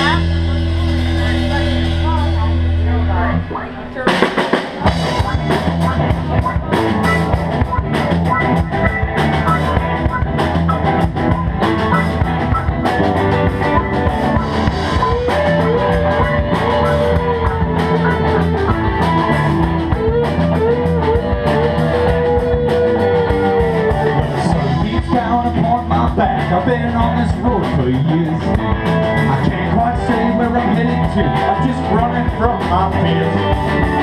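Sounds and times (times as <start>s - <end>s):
rock band playing: 0.0s - 34.0s
sliding lead guitar melody: 0.0s - 34.0s.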